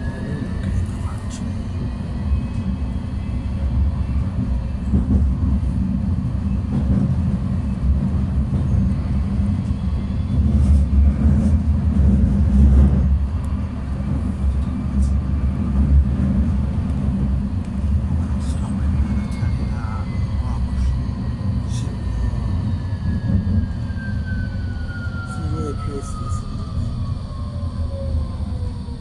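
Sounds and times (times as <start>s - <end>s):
tram wheels and motors rumbling: 0.0s - 29.0s.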